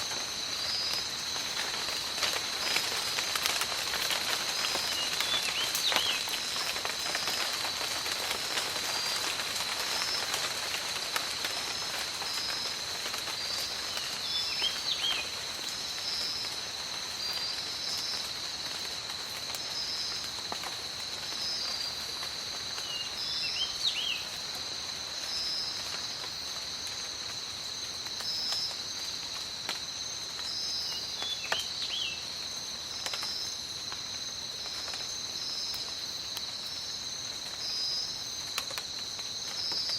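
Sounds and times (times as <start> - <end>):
insects trilling: 0.0 - 39.9
rain on foliage: 0.0 - 39.9.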